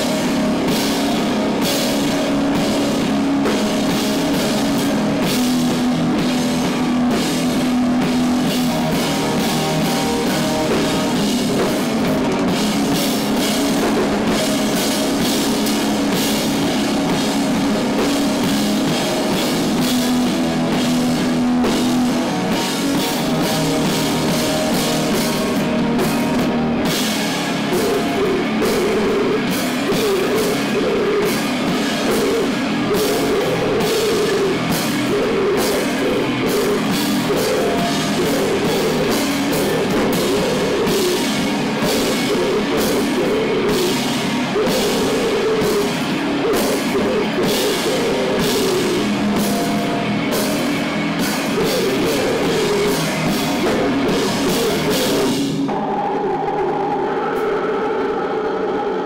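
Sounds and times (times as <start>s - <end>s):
cymbals washing: 0.0s - 55.7s
bass guitar: 0.0s - 57.3s
drum kit: 0.0s - 59.0s
electric guitar: 0.0s - 59.0s.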